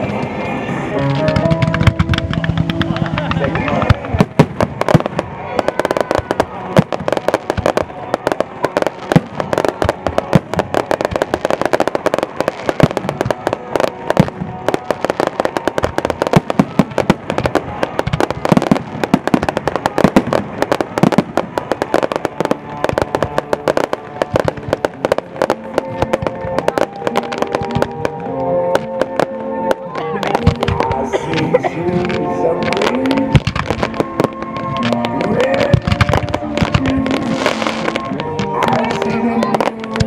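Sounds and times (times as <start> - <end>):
fireworks bangs and crackling: 0.0 - 40.0
music: 0.0 - 40.0.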